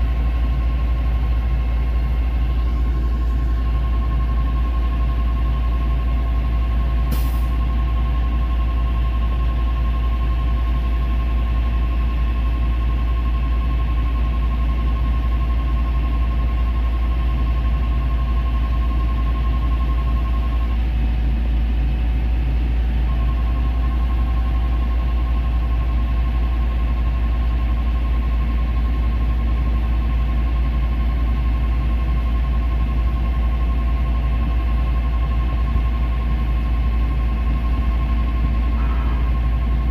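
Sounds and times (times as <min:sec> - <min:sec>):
diesel engine rumble: 0:00.0 - 0:39.9
high engine whine: 0:00.0 - 0:39.9.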